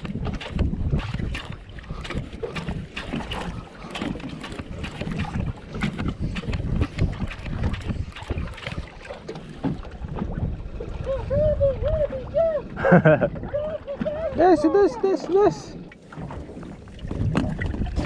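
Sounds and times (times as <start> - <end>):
water lapping against boat: 0.0 - 18.0
wind buffeting microphone: 0.0 - 18.0.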